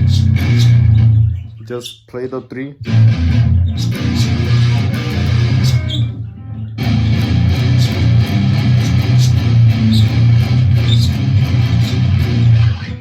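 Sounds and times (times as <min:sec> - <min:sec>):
palm-muted electric guitar riff: 0:00.0 - 0:01.5, 0:02.8 - 0:13.0.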